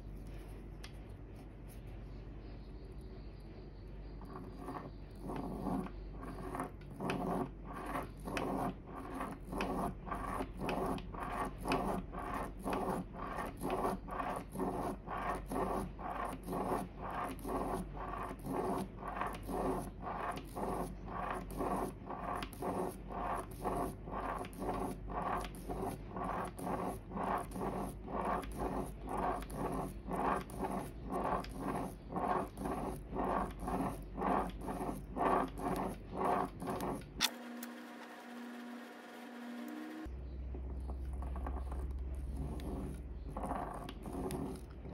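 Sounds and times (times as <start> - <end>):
pen scratching over paper: 4.2 - 37.2, 40.8 - 44.9.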